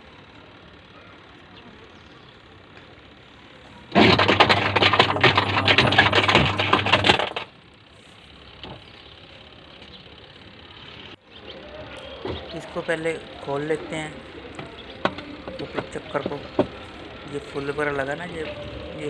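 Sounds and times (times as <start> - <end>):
fast clattering rattle: 0.0 - 19.0
washing machine pulsator hum: 0.0 - 19.0.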